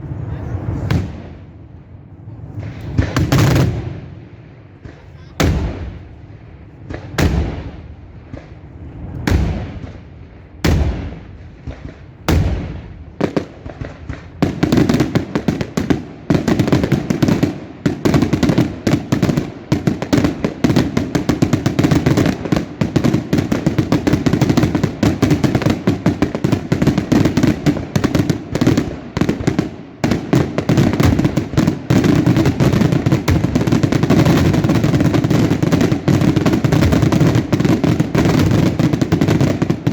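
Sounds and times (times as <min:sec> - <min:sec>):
fireworks bangs: 0:00.0 - 0:39.9
rapid fireworks barrage: 0:00.1 - 0:01.5, 0:02.3 - 0:39.9.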